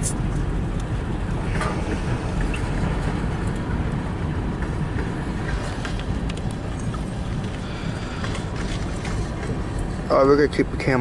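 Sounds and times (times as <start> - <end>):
freight train rolling: 0.0 - 11.0.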